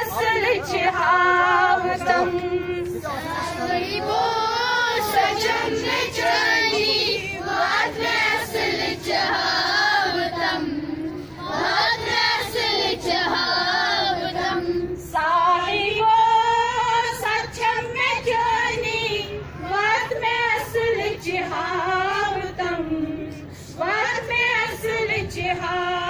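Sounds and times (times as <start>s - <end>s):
woman singing: 0.0s - 11.1s, 13.4s - 26.0s
children singing in chorus: 0.0s - 26.0s.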